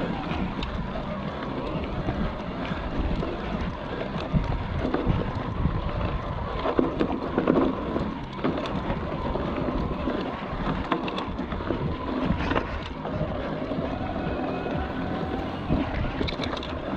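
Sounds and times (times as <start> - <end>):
bike knocks and rattles: 0.0 - 16.9
wind buffeting microphone: 0.0 - 16.9.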